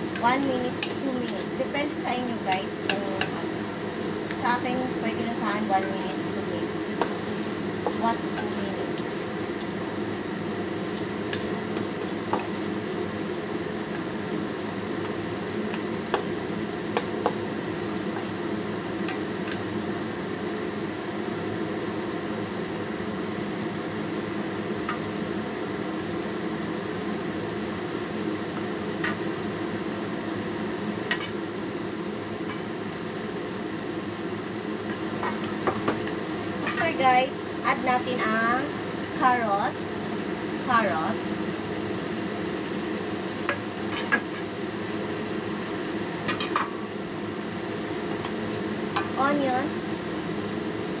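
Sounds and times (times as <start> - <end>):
faint steady hum: 0.0 - 51.0
food sizzling in a wok: 0.0 - 51.0.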